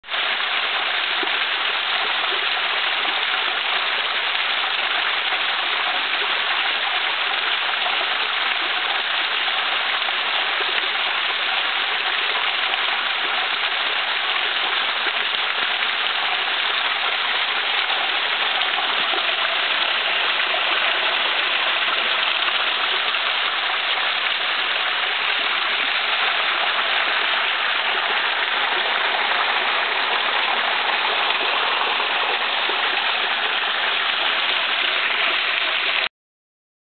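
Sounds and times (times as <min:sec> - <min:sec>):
waterfall splashing on rocks: 0:00.1 - 0:36.1.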